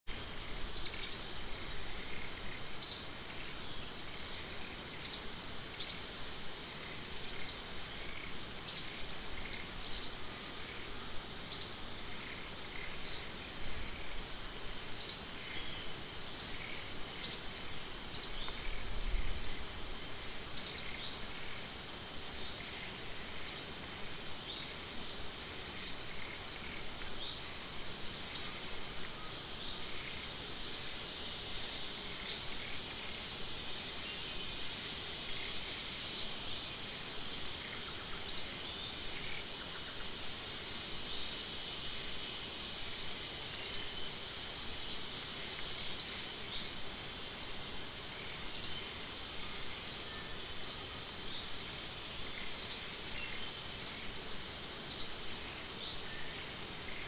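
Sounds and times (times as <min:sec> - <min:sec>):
high-pitched insect drone: 0:00.1 - 0:57.0.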